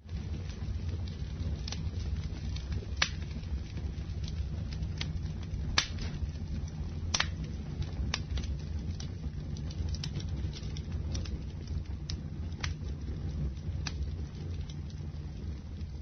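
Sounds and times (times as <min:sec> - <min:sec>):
burning logs crackling and popping: 0:00.0 - 0:16.0
campfire flames rumbling: 0:00.0 - 0:16.0.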